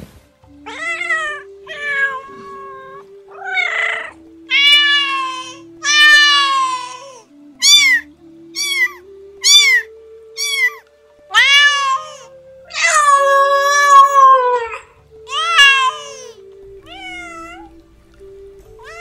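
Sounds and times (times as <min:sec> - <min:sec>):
cat meowing: 0:00.7 - 0:17.8, 0:18.8 - 0:19.0.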